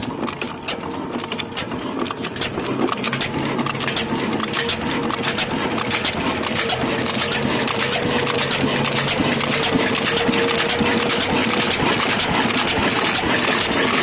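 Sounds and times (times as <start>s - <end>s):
diesel engine knocking steadily: 0.0s - 14.0s.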